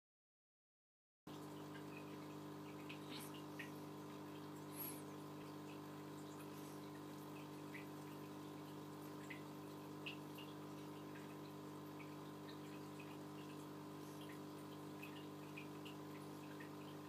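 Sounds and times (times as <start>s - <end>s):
aquarium water drips: 1.3s - 17.0s.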